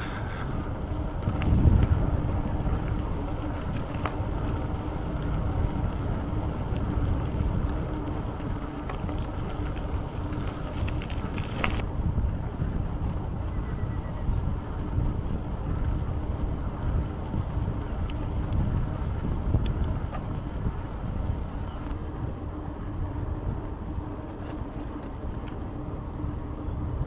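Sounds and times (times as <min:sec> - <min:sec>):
tyres rumbling on road: 0:00.0 - 0:27.0
wind buffeting microphone: 0:00.0 - 0:27.0.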